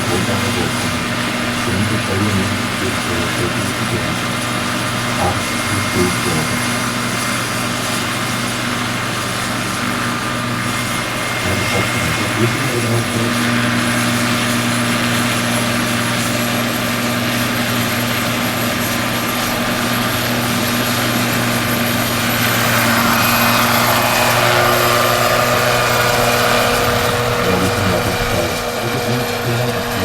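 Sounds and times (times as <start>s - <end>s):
model helicopter turbine whine: 0.0s - 30.0s
rotor and engine hum: 0.0s - 30.0s.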